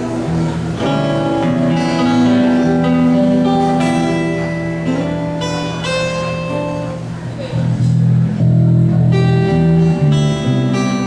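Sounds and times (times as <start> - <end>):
acoustic guitar strumming chords: 0.0 - 11.0
low bass notes: 0.0 - 11.0.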